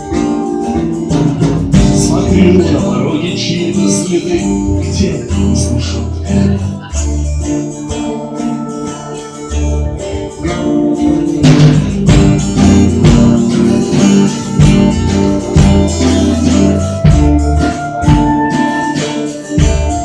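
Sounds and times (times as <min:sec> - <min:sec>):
live band playing: 0:00.0 - 0:20.0
strummed guitar: 0:00.0 - 0:20.0.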